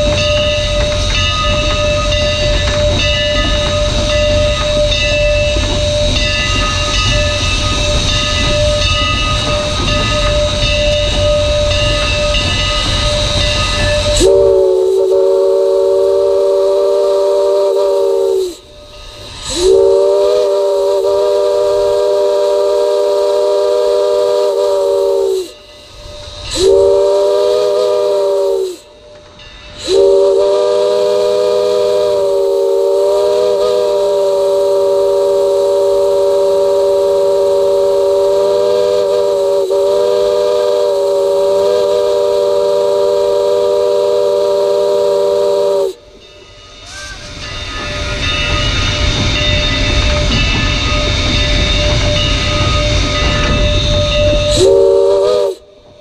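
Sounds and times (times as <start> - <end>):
steam locomotive chime whistle: 0.0 - 56.0.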